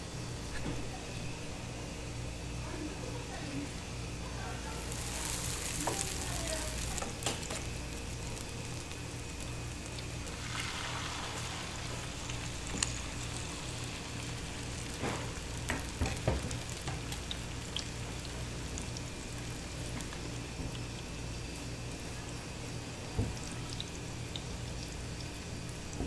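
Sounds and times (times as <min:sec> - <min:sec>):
egg sizzling on a griddle: 0:04.4 - 0:26.0.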